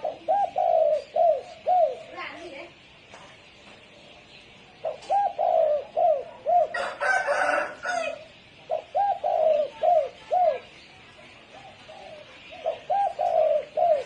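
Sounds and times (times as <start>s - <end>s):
dove cooing: 0.0s - 2.7s, 4.8s - 10.8s, 11.4s - 14.0s.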